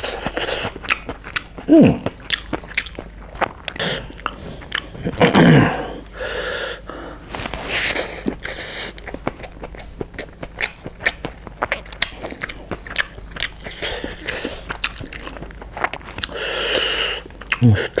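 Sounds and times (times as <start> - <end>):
man chewing food: 0.0 - 18.0.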